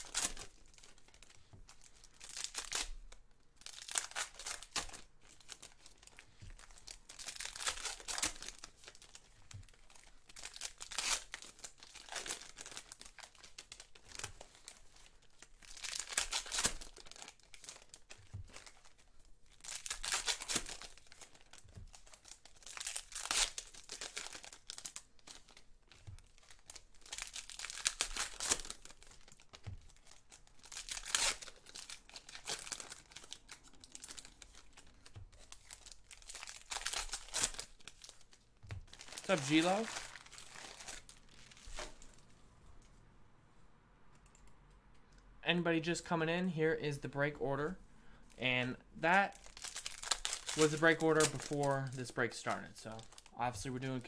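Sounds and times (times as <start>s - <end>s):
foil wrappers tearing and crinkling: 0.0s - 42.1s, 49.1s - 54.0s.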